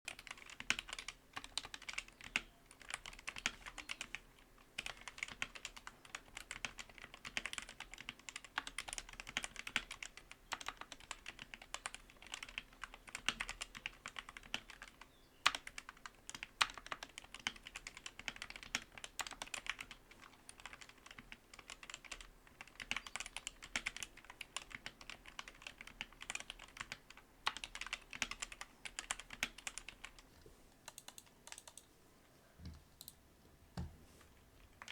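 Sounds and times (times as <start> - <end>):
mechanical keyboard typing: 0.1 - 4.2, 4.8 - 30.2, 30.9 - 31.9.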